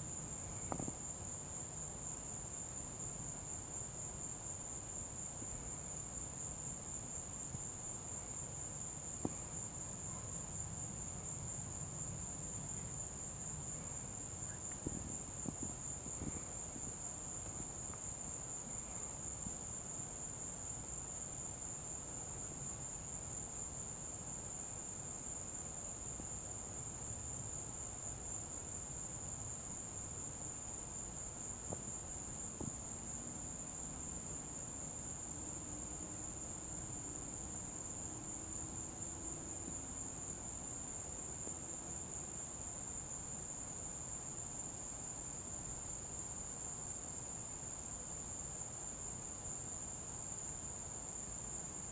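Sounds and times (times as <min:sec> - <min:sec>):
crickets trilling: 0:00.0 - 0:51.9.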